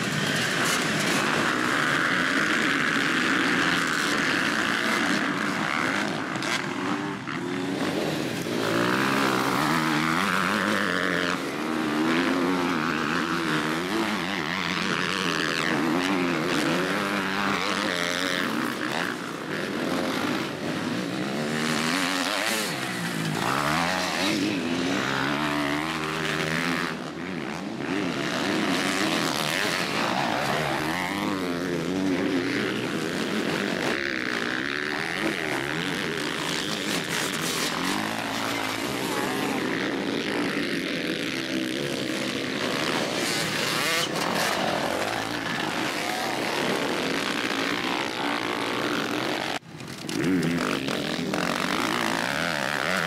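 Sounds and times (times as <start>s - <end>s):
motocross bike engines revving: 0.0s - 53.0s.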